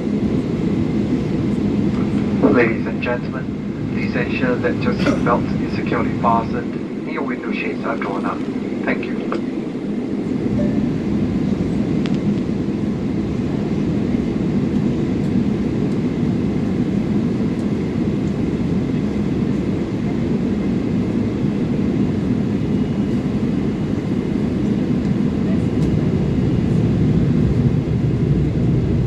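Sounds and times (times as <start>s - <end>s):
airplane cabin hum: 0.0s - 29.0s.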